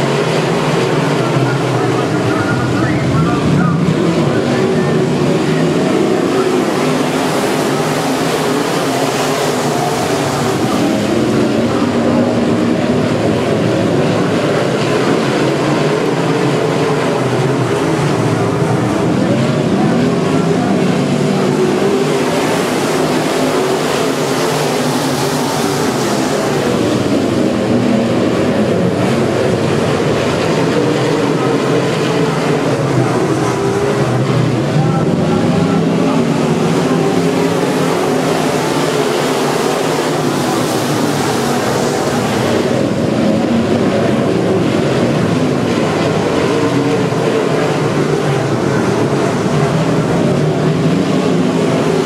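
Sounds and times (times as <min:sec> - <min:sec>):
race car engines droning: 0:00.0 - 0:52.0.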